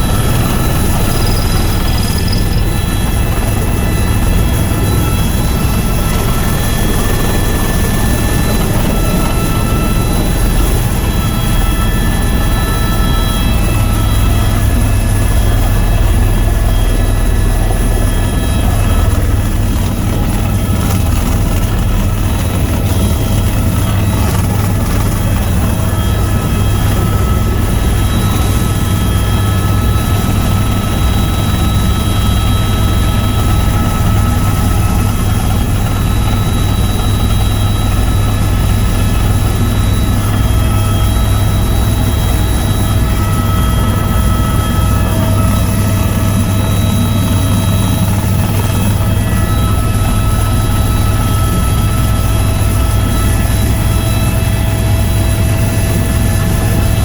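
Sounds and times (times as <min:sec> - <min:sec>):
helicopter rotor drone: 0:00.0 - 0:57.0
high turbine whine: 0:00.0 - 0:57.0.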